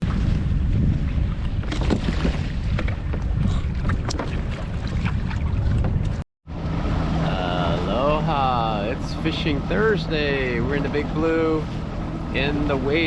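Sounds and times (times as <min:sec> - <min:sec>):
water sloshing around boat: 0:00.0 - 0:13.0
wind buffeting microphone: 0:00.0 - 0:13.0.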